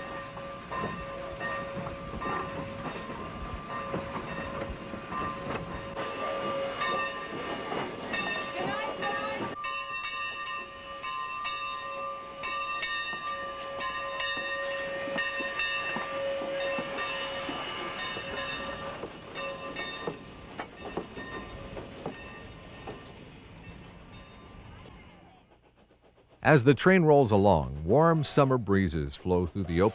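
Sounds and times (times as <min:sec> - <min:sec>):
steam train running: 0:00.0 - 0:29.9.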